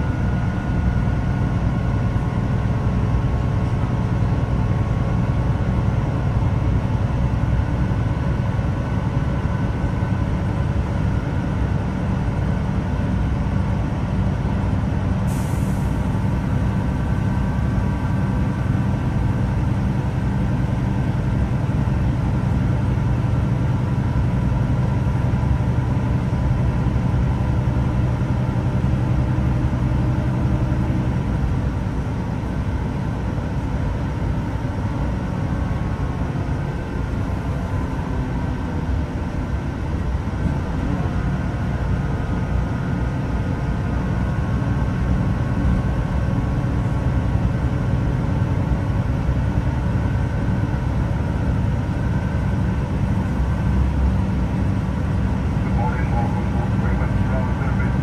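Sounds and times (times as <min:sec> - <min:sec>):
train diesel engine droning: 0:00.0 - 0:58.0
wheels rumbling on rails: 0:00.0 - 0:58.0.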